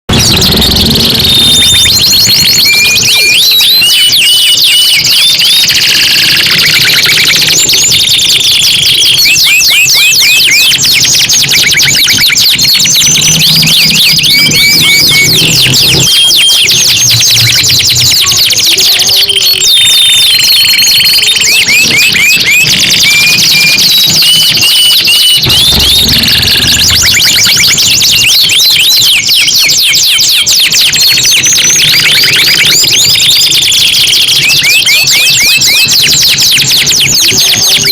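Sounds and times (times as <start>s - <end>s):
canaries singing trills: 0.1s - 37.9s.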